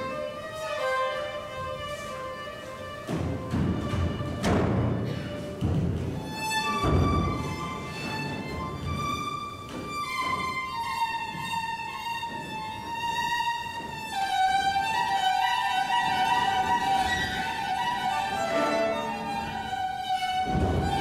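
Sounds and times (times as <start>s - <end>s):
violin playing long notes: 0.0s - 21.0s.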